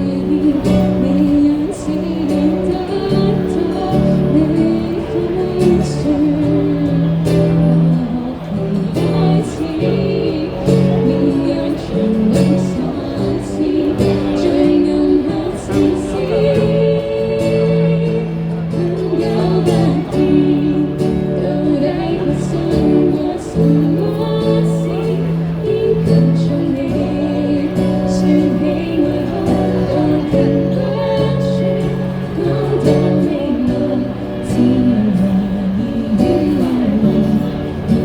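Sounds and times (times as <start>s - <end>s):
guitar strumming: 0.0s - 38.0s
person singing: 0.0s - 38.0s.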